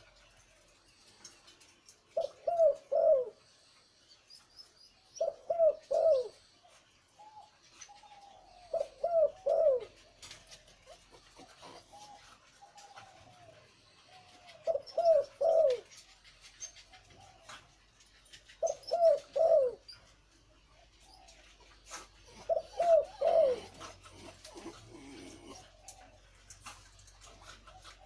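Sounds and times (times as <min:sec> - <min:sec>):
dove cooing: 0:02.1 - 0:03.6, 0:05.0 - 0:20.0, 0:20.8 - 0:28.0.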